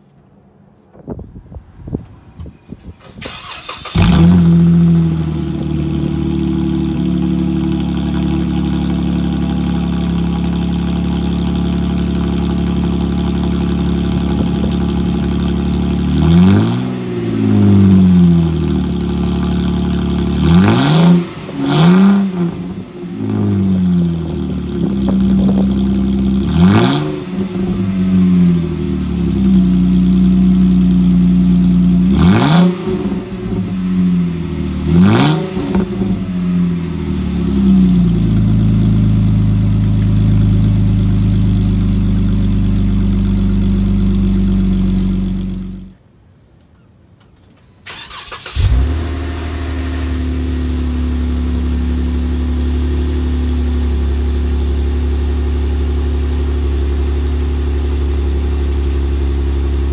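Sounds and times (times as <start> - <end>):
engine revving: 3.2 - 45.9, 47.9 - 59.9
car engine idling without muffler: 4.0 - 32.2, 32.8 - 45.9, 48.6 - 59.9.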